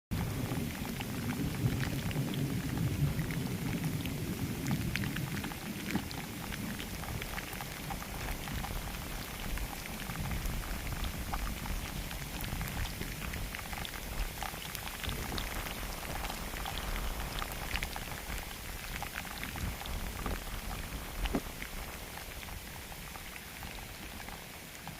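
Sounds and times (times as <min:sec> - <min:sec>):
rain hiss: 0:00.1 - 0:24.9
raindrops ticking: 0:00.1 - 0:24.9.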